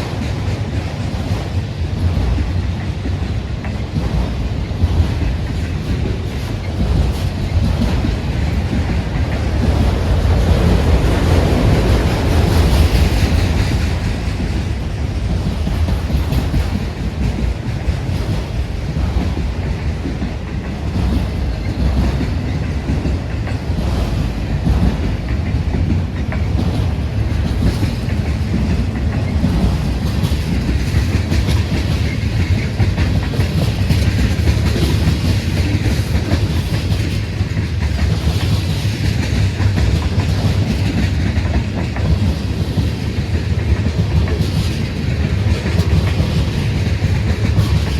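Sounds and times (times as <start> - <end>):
freight train rumble: 0.0 - 47.9
wheels clicking over rail joints: 0.0 - 47.9.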